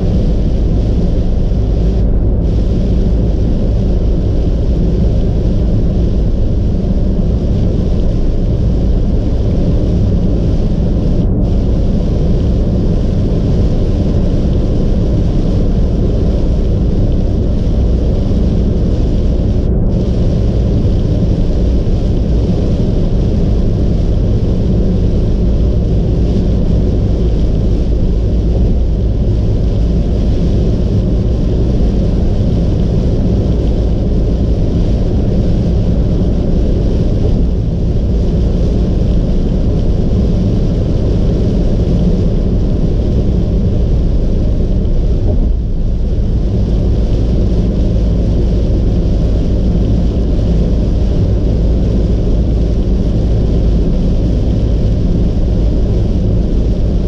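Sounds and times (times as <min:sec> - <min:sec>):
car engine: 0:00.0 - 0:57.0
wind noise: 0:00.0 - 0:57.0.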